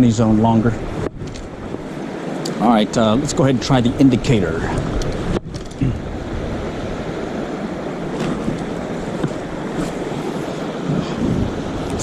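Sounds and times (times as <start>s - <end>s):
river water flowing: 0.0s - 12.0s
wind over microphone: 0.0s - 12.0s.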